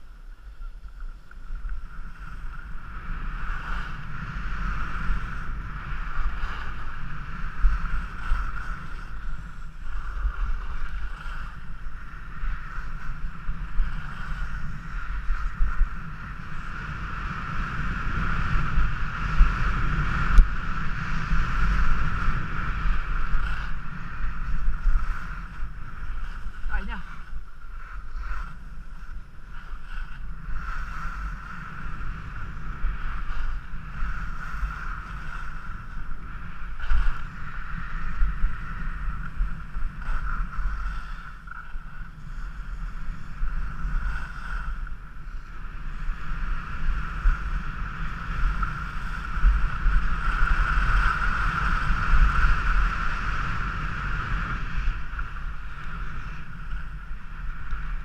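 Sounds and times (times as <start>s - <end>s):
wind rumbling over microphone: 0.0s - 58.0s
skis hissing on snow: 3.4s - 16.8s, 18.0s - 39.1s, 40.0s - 41.4s, 42.0s - 56.4s.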